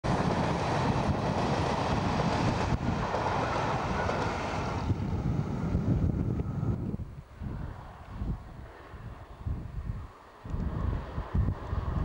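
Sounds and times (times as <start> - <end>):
passenger train rumbling: 0.0 - 12.0
wind on microphone: 0.1 - 12.0.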